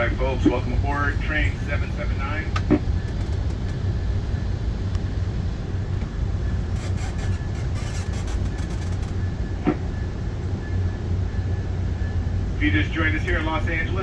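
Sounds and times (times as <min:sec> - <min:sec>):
train rumble inside coach: 0:00.0 - 0:14.0.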